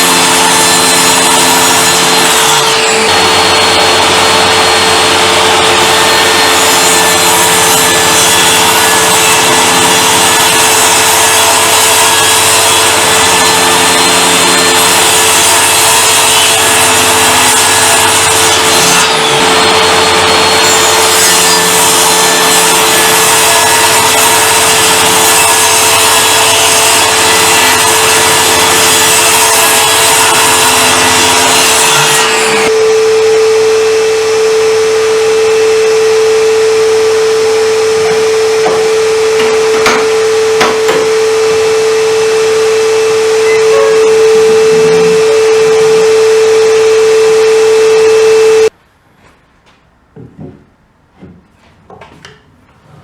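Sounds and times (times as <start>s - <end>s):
saw cutting through wood: 0.0s - 48.7s
table saw motor running: 0.0s - 48.7s.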